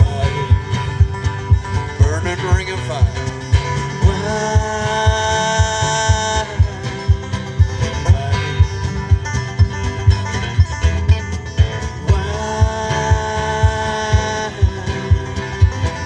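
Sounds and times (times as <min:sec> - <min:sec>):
held melody notes: 0:00.0 - 0:16.0
kick drum beat: 0:00.0 - 0:16.0
strummed strings: 0:00.0 - 0:16.0.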